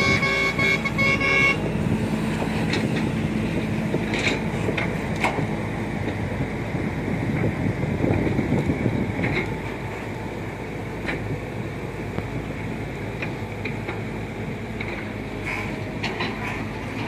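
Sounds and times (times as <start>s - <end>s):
excavator diesel engines running: 0.0s - 17.0s.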